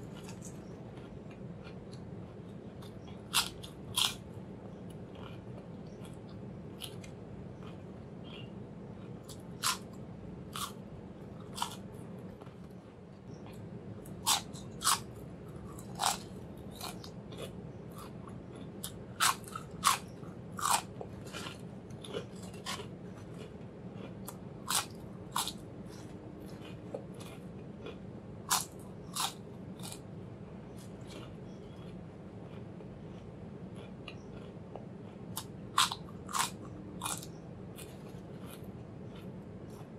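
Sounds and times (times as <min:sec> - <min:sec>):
potato chips crunching: 0:00.0 - 0:04.3, 0:04.9 - 0:12.8, 0:13.5 - 0:30.1, 0:30.8 - 0:39.9
low background hum: 0:00.0 - 0:39.9.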